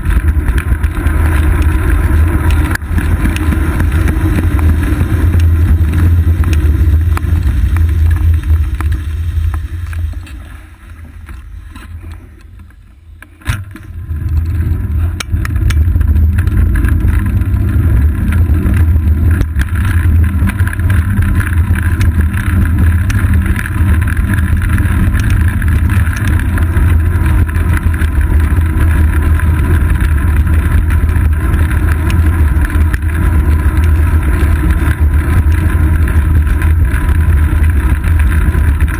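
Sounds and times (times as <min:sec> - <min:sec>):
road vibration: 0:00.0 - 0:38.9
wind rumble: 0:00.0 - 0:38.9.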